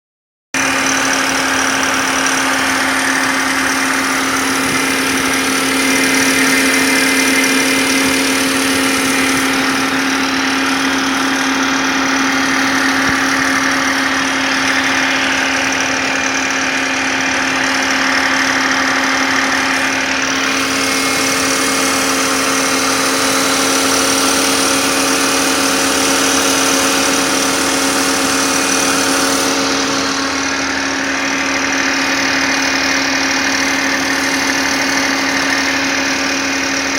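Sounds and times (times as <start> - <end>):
car engine running with rattle: 0.6 - 36.9.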